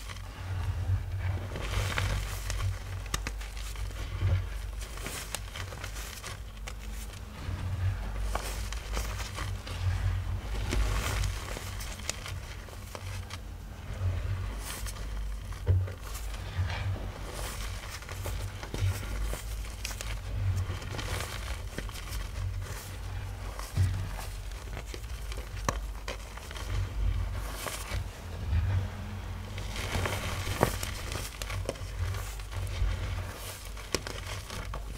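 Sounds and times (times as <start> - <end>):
chalk crunching and crumbling: 0.0 - 34.9.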